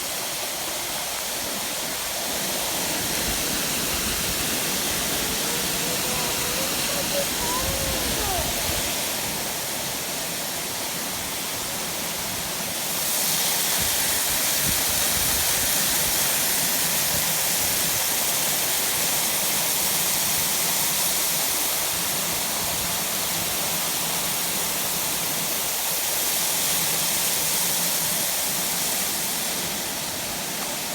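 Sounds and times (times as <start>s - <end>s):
waterfall rushing water: 0.0s - 30.9s.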